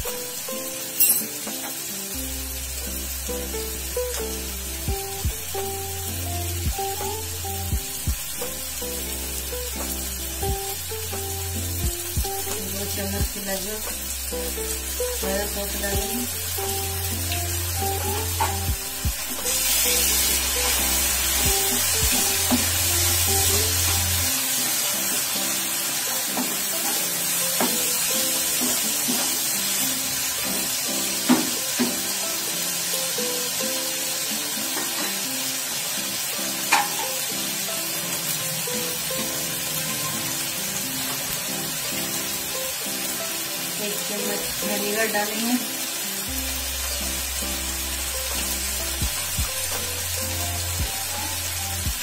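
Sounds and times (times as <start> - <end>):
background music: 0.0 - 52.0
vegetables sizzling in a frying pan: 0.0 - 52.0.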